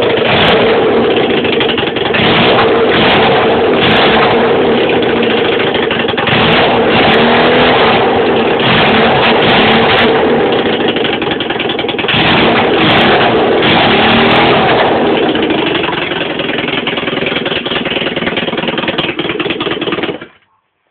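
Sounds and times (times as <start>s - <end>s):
motorcycle engine revving: 0.0s - 20.4s.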